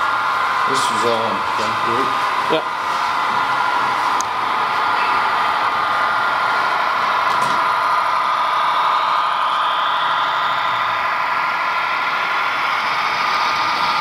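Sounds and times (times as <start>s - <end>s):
model train motors whirring: 0.0s - 14.0s.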